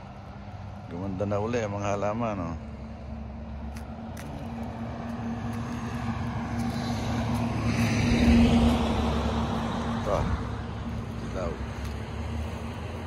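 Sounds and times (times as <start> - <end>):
vehicle engine passing by: 1.9 - 13.0.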